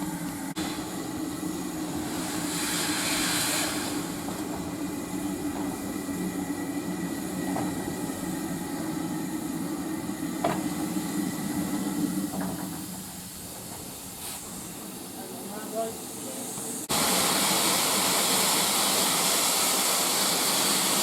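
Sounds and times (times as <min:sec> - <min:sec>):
train running with low hum: 0:00.0 - 0:21.0.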